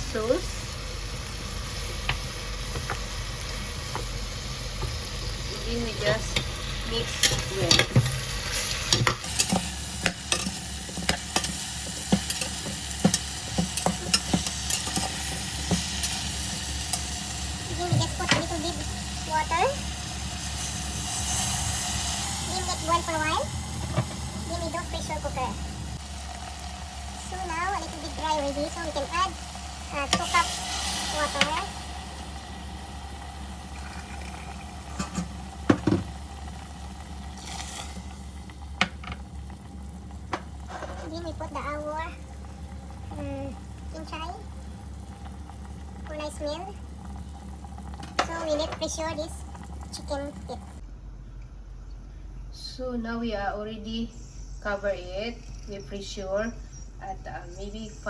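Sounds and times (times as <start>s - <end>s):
food sizzling in a pan: 0.0s - 50.8s.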